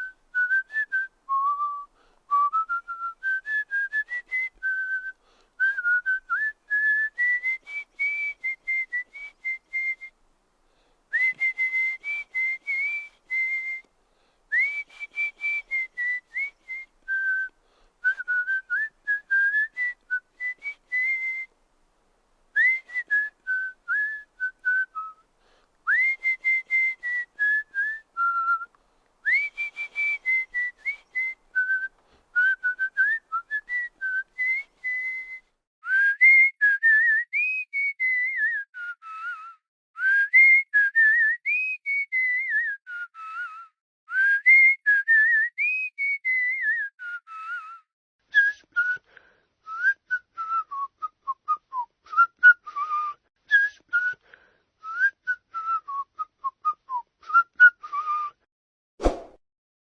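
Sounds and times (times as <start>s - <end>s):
person whistling: 0.0s - 10.1s, 11.1s - 13.9s, 14.5s - 21.5s, 22.6s - 58.5s.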